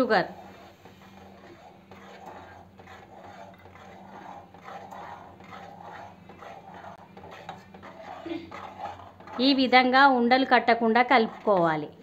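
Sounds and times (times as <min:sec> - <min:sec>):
low steady hum: 0:00.0 - 0:12.0
metal spoon scraping a pot: 0:00.0 - 0:12.0.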